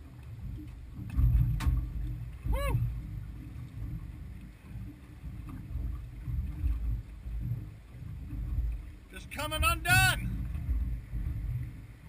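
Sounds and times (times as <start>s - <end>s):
water lapping against boat hull: 0.0s - 12.0s
wind on microphone: 0.0s - 12.0s.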